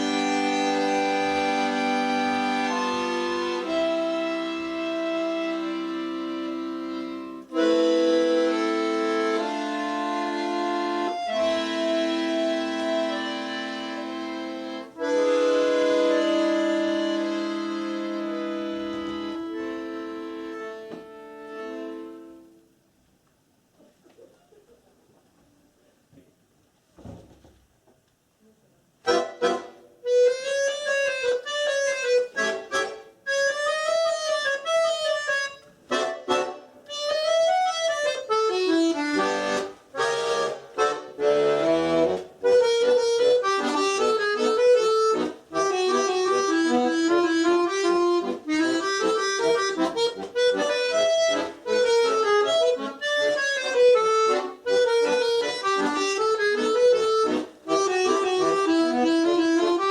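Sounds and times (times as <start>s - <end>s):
solo accordion playing: 0.0s - 22.8s, 29.0s - 59.9s.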